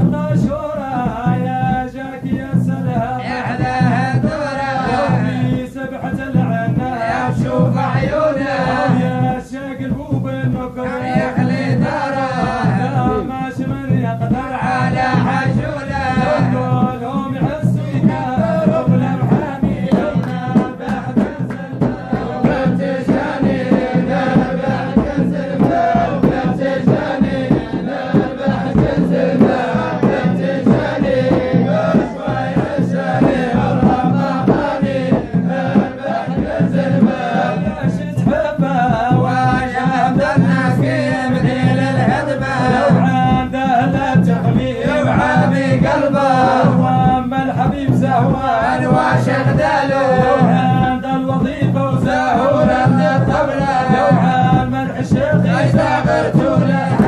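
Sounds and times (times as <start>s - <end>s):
frame drum beat: 0.0s - 57.0s
men chanting in unison: 0.0s - 57.0s.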